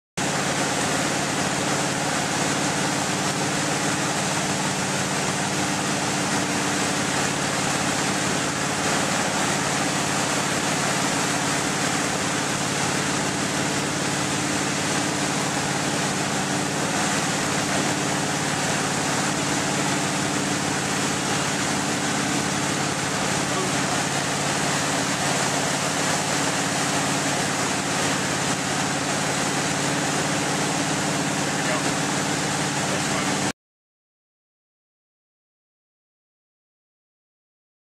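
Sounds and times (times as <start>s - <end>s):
boat engine running steadily: 0.2s - 33.5s
rushing water: 0.2s - 33.5s.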